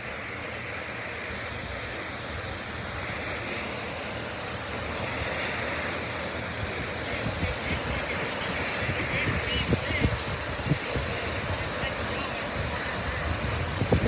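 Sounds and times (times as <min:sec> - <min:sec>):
water gushing from hydrant: 0:00.0 - 0:14.0.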